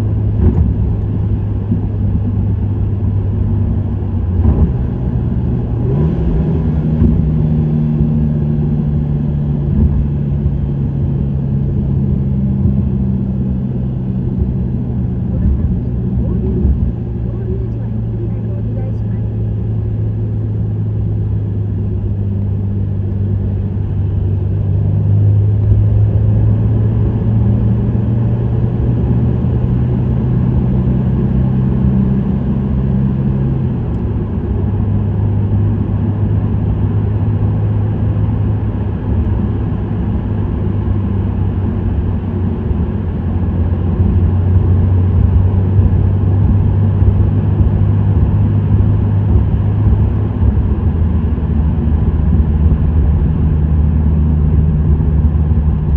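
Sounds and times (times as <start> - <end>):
car engine at speed: 0.0 - 55.9
road noise: 0.0 - 55.9.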